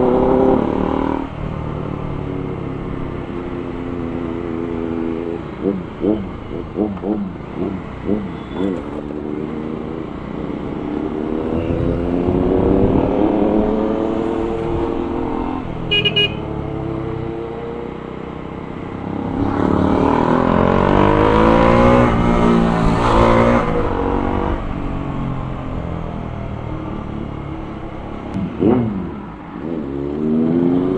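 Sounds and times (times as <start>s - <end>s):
motorcycle engine revving: 0.0s - 24.9s, 27.0s - 30.9s.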